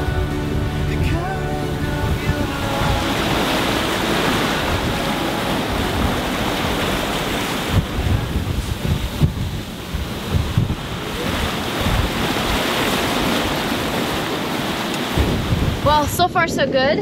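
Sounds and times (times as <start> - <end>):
water rushing past a boat: 0.0 - 16.8
wind gusting on microphone: 0.0 - 17.0.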